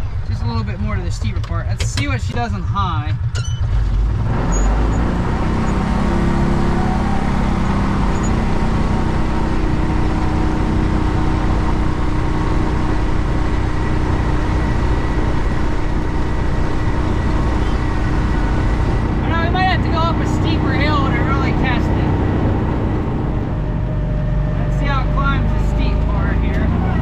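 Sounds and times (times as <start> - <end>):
utility vehicle engine under load: 0.0 - 27.0.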